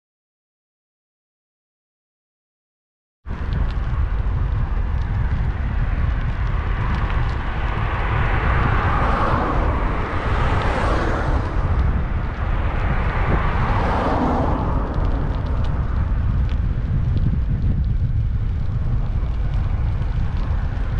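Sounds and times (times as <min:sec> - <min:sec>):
cars passing: 0:03.3 - 0:20.9
wind rumbling on microphone: 0:03.3 - 0:20.9.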